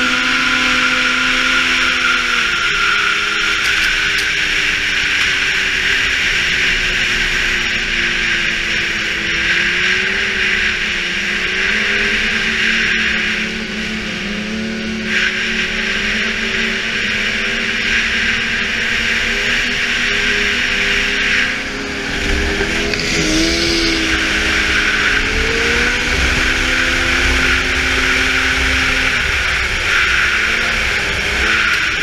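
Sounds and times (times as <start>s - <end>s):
snowmobile engine running: 0.0s - 32.0s.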